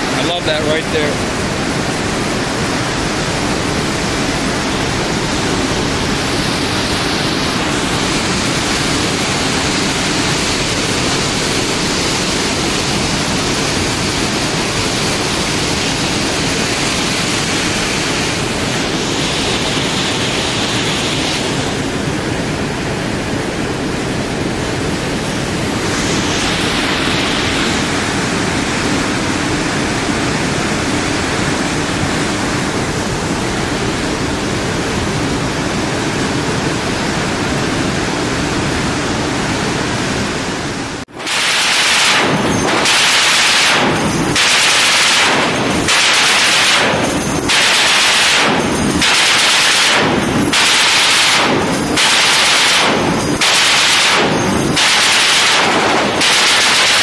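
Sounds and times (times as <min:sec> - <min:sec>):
rush of foaming water: 0:00.0 - 0:57.0.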